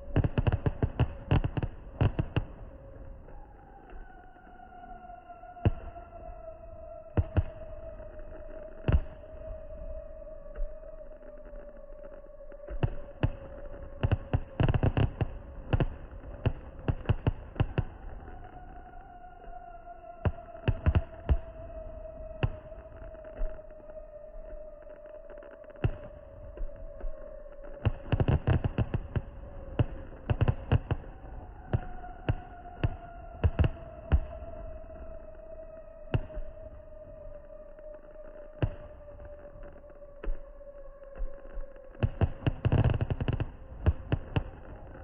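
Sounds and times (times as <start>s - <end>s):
faint steady tone: 0.0s - 45.0s.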